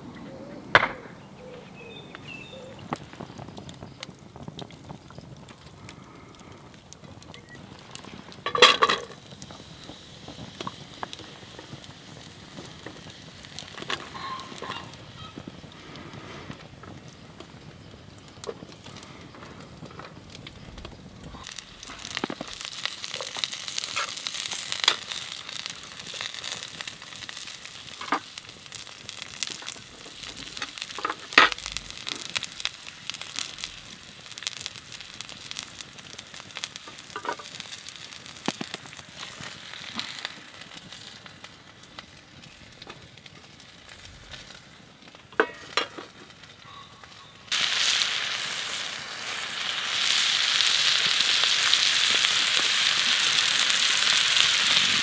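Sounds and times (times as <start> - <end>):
onions sizzling in a pan: 1.3 - 55.0.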